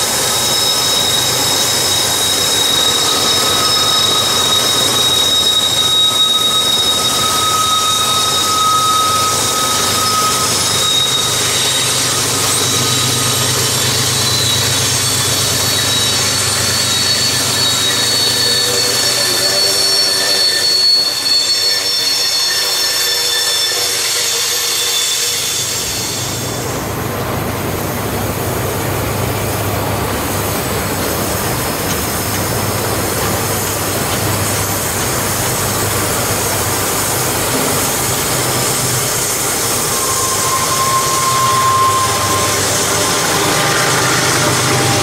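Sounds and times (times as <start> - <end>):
high wheel squeals: 0.0 - 45.0.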